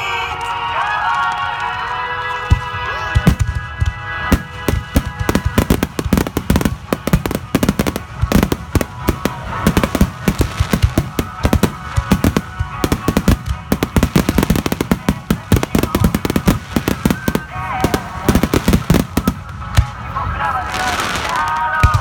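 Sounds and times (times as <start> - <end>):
fireworks bursting: 0.0 - 22.0
music playing: 0.0 - 22.0.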